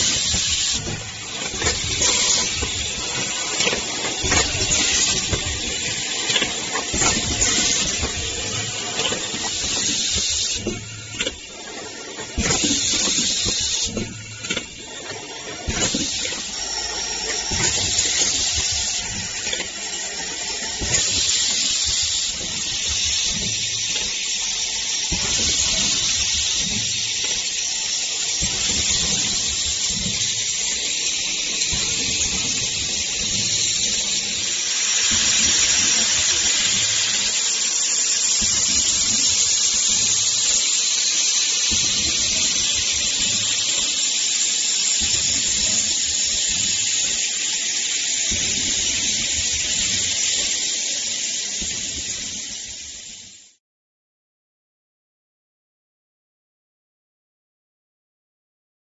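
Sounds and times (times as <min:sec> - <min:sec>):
steady hiss: 0:00.0 - 0:53.5.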